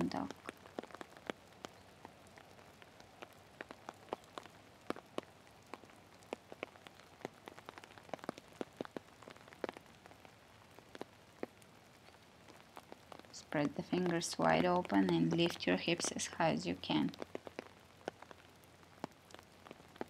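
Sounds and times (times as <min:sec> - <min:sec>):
faint hiss of rain: 0:00.0 - 0:20.0
raindrops ticking on a surface: 0:00.0 - 0:20.0.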